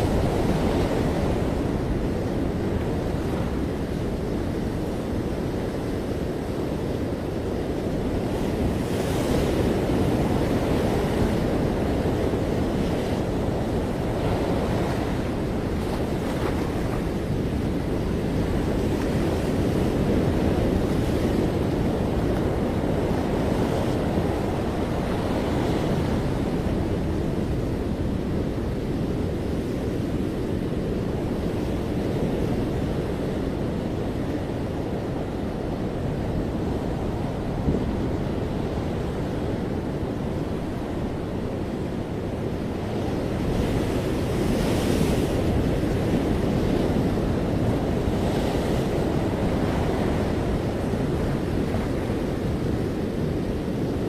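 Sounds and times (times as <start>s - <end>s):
ocean waves breaking: 0.0s - 54.0s
wind buffeting microphone: 0.0s - 54.0s.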